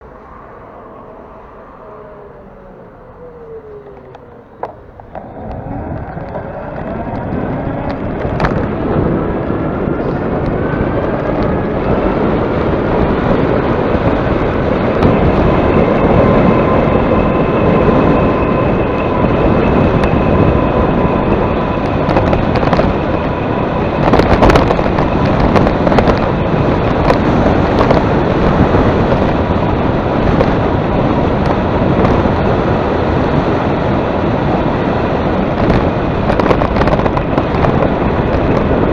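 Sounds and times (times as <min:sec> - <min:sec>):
motor whine: 0:00.0 - 0:38.9
wind buffeting microphone: 0:00.0 - 0:38.9.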